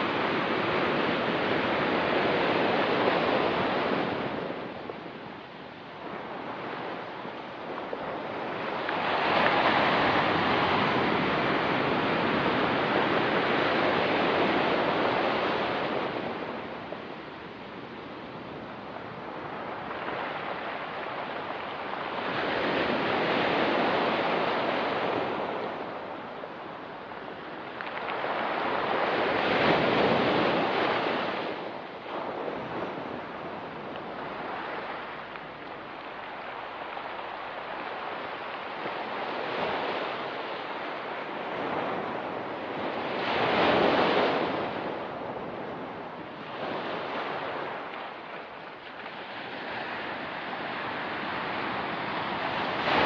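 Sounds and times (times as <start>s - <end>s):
ocean waves breaking on rocky shore: 0.0s - 53.0s
wind on microphone: 0.0s - 53.0s.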